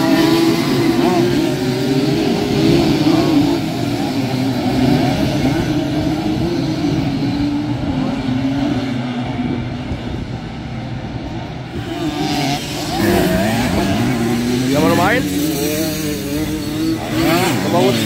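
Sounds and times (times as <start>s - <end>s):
two-stroke mopeds revving: 0.0s - 18.0s.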